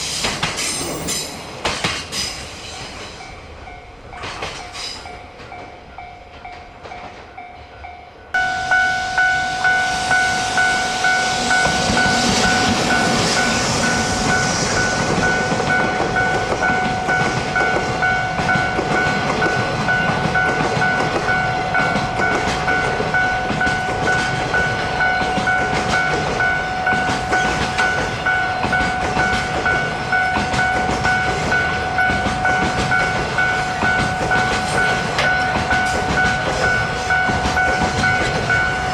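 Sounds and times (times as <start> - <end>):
train wheels clattering: 0.0 - 8.0, 8.6 - 38.9
steady high tone: 7.6 - 38.9.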